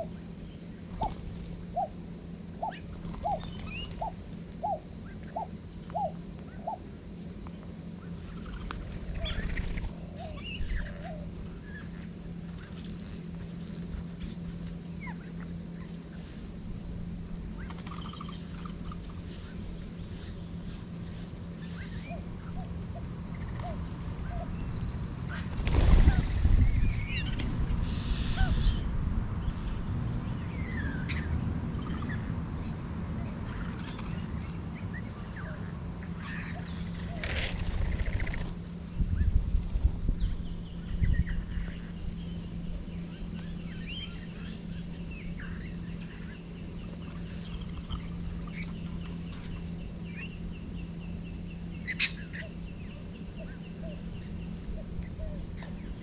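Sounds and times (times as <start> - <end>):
high insect drone: 0.0 - 56.0
birds chirping and squawking: 0.8 - 2.0, 2.6 - 6.9, 8.1 - 13.3, 17.5 - 32.3, 33.1 - 39.4, 40.2 - 56.0.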